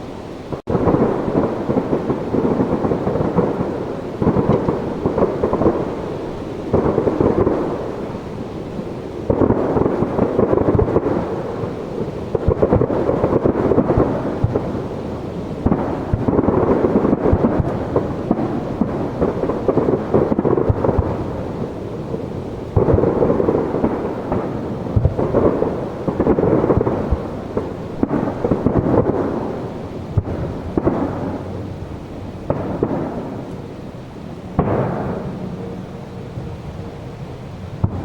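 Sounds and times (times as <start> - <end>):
firework shells bursting: 0.6 - 36.4.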